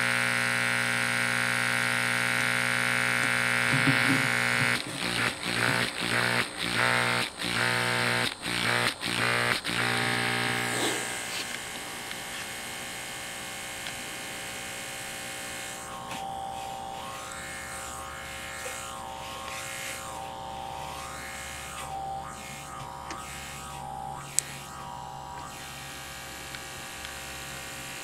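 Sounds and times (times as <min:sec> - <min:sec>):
loudspeaker mains buzzing: 0:00.0 - 0:28.0.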